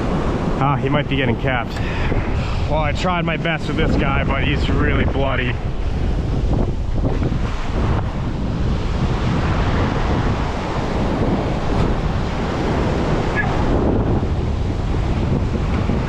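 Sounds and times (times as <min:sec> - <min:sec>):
surf breaking on shore: 0:00.0 - 0:16.0
wind buffeting microphone: 0:00.0 - 0:16.0.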